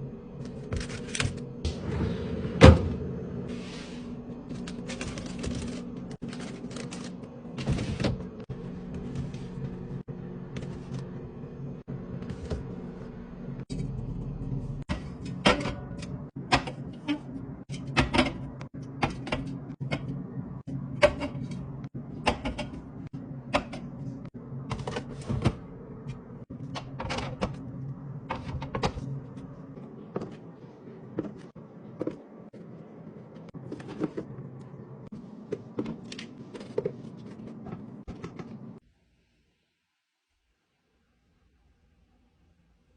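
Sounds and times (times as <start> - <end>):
steady low hum: 0.0 - 38.8.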